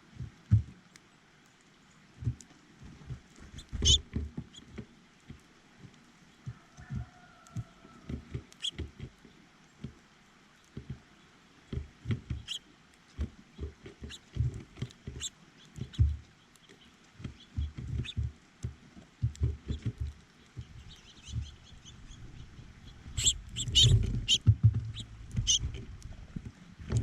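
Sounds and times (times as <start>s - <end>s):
small animals scrabbling on feeder: 2.2s - 10.0s, 11.7s - 27.0s.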